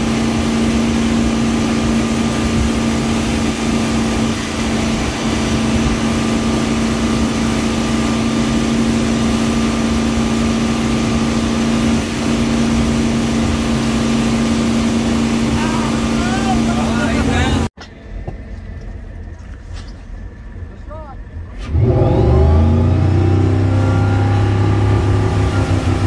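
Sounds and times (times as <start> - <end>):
wake water rushing: 0.0 - 17.7, 21.6 - 26.0
boat engine droning: 0.0 - 26.0.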